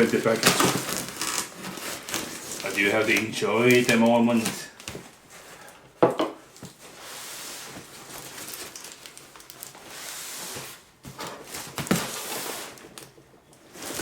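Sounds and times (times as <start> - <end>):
cardboard package rasping: 0.0 - 5.6, 6.7 - 14.0.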